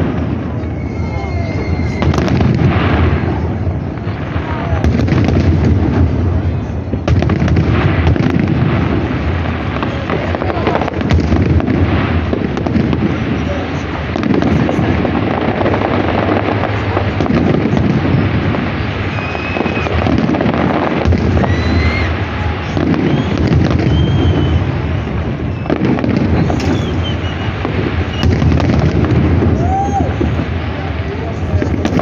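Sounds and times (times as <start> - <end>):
fireworks whistles: 0.0 - 4.6, 9.2 - 30.8
fireworks bangs and crackling: 0.0 - 32.0.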